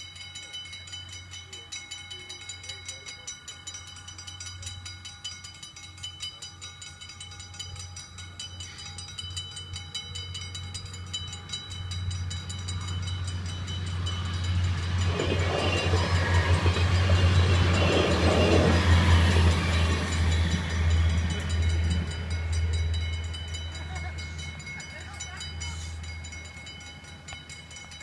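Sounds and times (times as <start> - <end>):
level crossing warning bells: 0.0 - 28.0
diesel train engine passing: 0.1 - 28.0.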